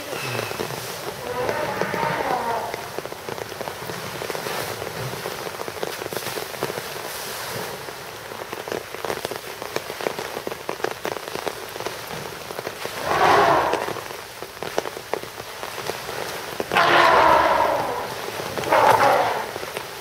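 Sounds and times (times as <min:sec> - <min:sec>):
elephant splashing in water: 0:00.0 - 0:08.3, 0:11.9 - 0:20.0
steady rain falling: 0:00.0 - 0:20.0.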